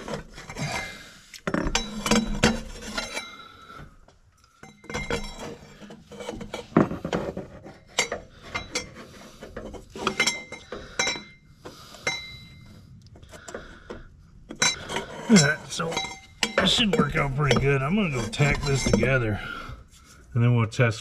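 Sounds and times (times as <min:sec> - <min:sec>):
metal pipes clanking together: 0:00.0 - 0:03.9, 0:04.6 - 0:12.6, 0:13.3 - 0:20.1.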